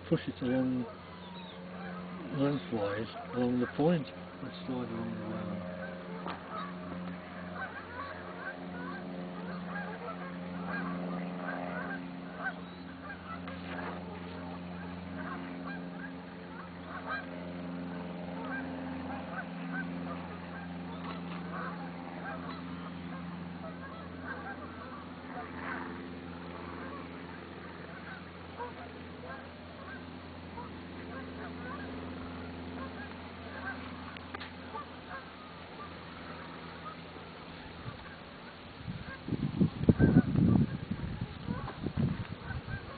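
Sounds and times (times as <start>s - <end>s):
geese honking: 0.0s - 42.9s
steady low hum: 0.0s - 42.9s.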